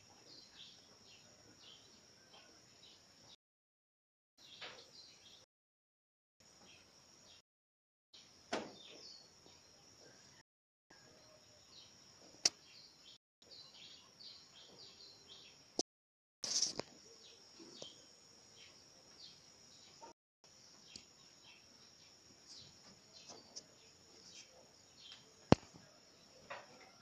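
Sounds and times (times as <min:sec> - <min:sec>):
small birds chirping: 0:00.0 - 0:03.4, 0:04.4 - 0:05.5, 0:06.5 - 0:07.4, 0:08.2 - 0:15.8, 0:16.5 - 0:27.0.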